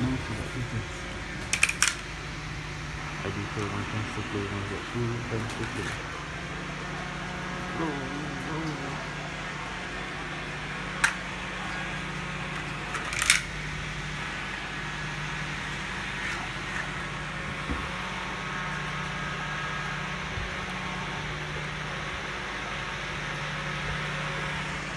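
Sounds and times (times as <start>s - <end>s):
handheld fan whirring hum: 0.0s - 24.9s.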